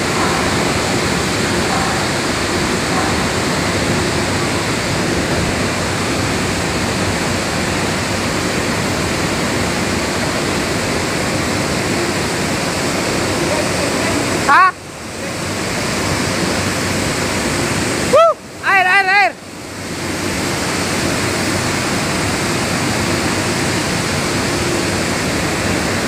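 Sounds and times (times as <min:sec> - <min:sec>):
mill machinery roaring: 0:00.0 - 0:18.6, 0:19.5 - 0:26.0.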